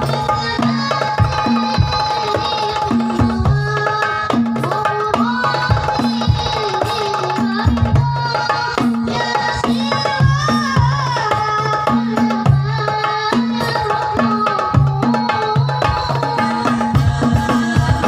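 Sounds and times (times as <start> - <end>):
hand drums playing rhythm: 0.0 - 18.0.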